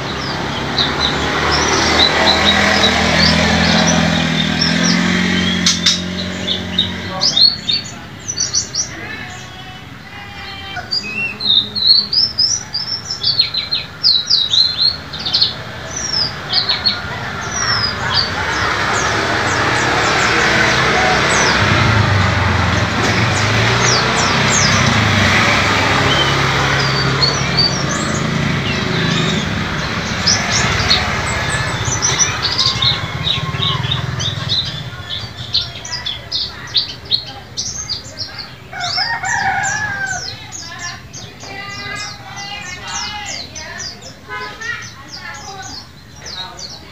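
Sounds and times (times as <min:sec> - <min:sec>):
bird chirping high: 0:00.0 - 0:46.9.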